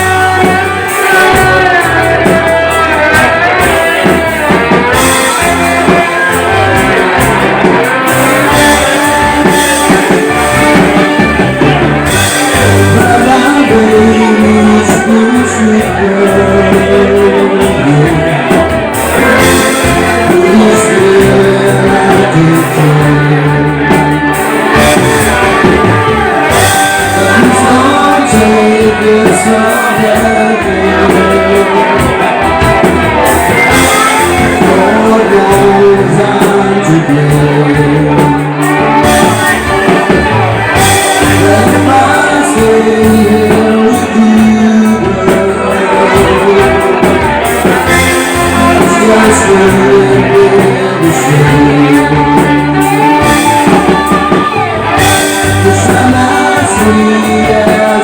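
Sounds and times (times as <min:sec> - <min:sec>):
live rock band: 0:00.0 - 0:58.0
person singing: 0:00.0 - 0:58.0.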